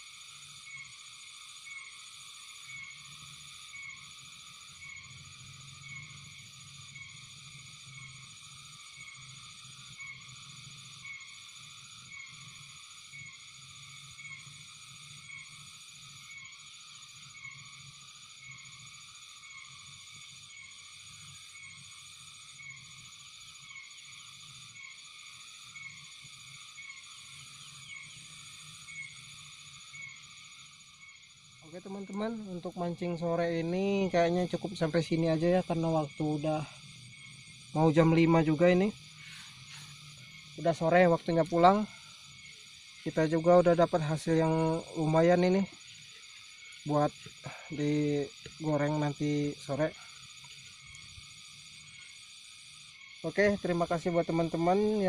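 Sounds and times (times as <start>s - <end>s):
frog calling: 0.0s - 55.0s
high insect trill: 0.0s - 55.0s.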